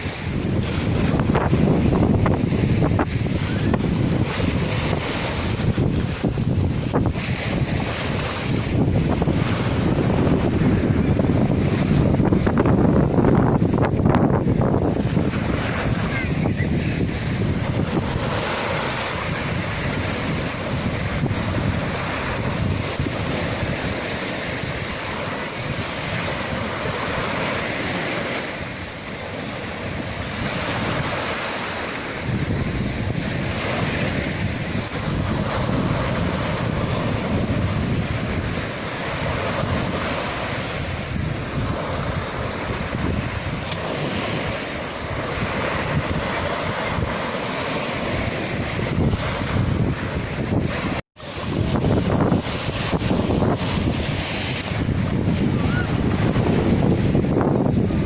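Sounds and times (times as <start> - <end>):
sea waves breaking in surf: 0.0 - 58.0
wind buffeting microphone: 0.0 - 58.0.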